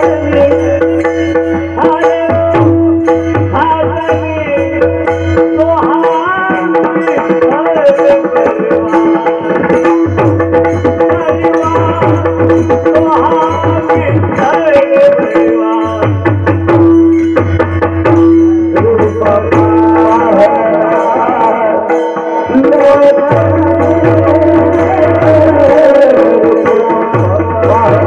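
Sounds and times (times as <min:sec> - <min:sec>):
pakhawaj drumming: 0:00.0 - 0:28.0.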